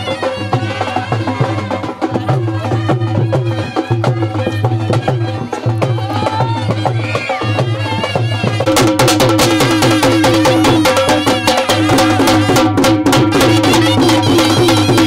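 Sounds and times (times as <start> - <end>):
traditional music with drum beat: 0.0 - 15.0.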